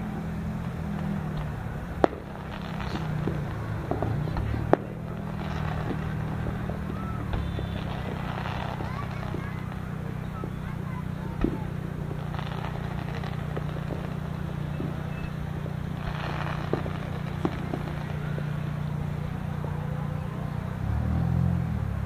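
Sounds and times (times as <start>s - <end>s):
distant fireworks popping: 0.0s - 21.2s
firework hissing burst: 1.2s - 19.6s.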